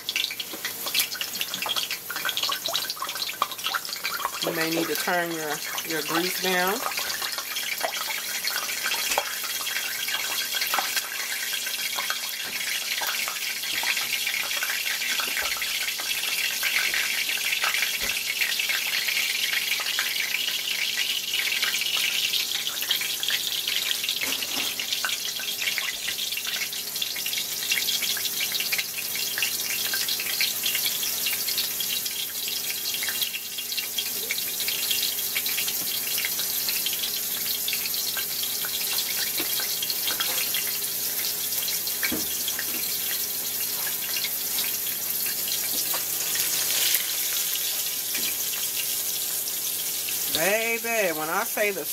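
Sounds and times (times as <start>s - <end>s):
pork chops sizzling in grease: 0.0s - 51.9s.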